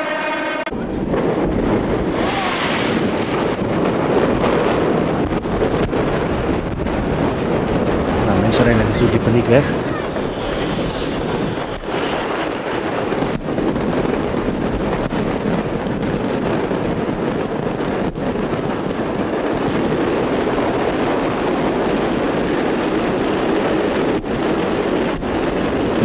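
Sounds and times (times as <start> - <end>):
fireworks crackling and banging: 0.0 - 26.0.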